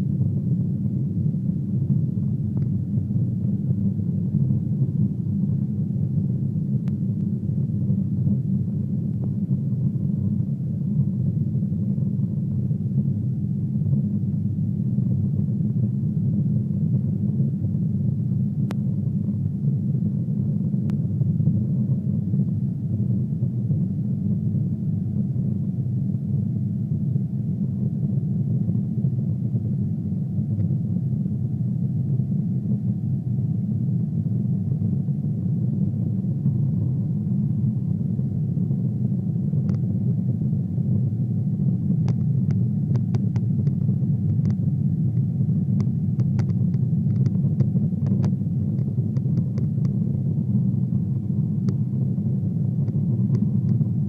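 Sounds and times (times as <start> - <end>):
airliner cabin engine rumble: 0.0 - 54.0
faint steady hum: 0.0 - 54.0.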